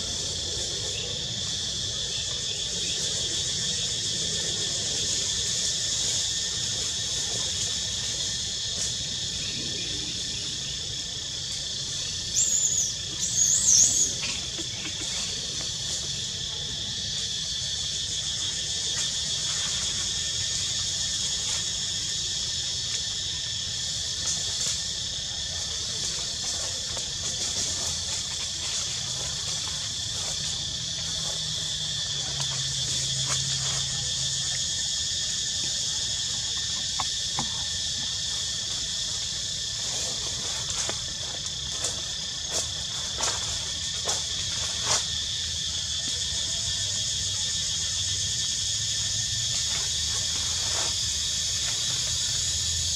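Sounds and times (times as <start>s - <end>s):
high insect drone: 0.0s - 52.9s.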